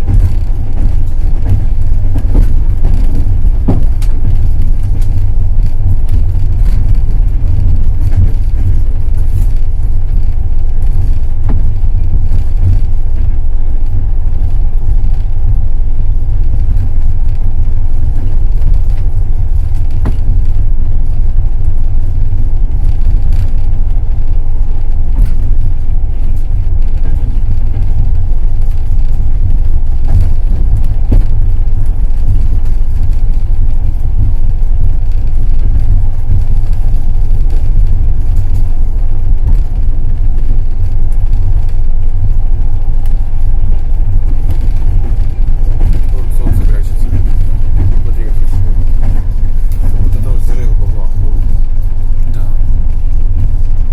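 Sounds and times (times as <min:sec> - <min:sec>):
train low rumble: 0:00.0 - 0:53.9.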